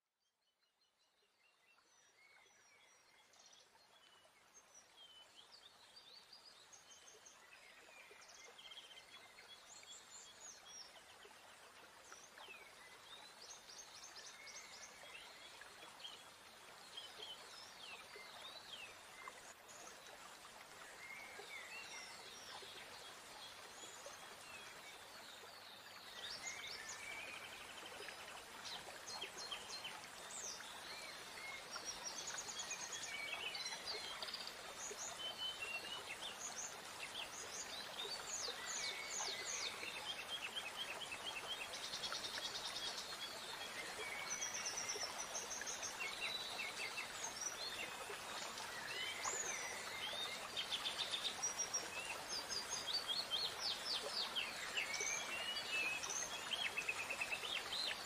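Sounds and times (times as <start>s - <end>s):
soft steady hiss: 0.6s - 58.0s.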